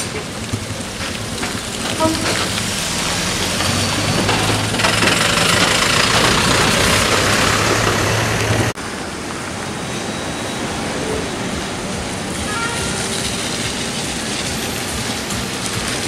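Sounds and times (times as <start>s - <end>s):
truck diesel engine humming: 0.0s - 16.0s
tyres hissing on wet road: 0.0s - 16.0s.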